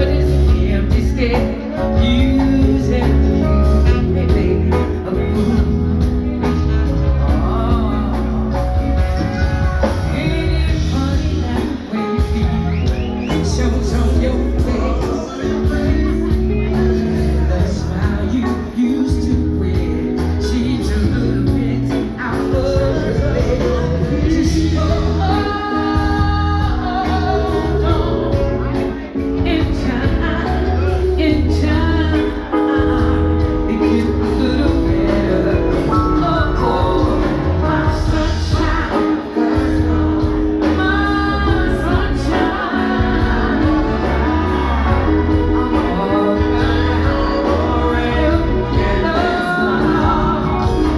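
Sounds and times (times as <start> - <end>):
heavy bass: 0.0 - 50.9
live band playing: 0.0 - 50.9
woman singing: 0.0 - 50.9.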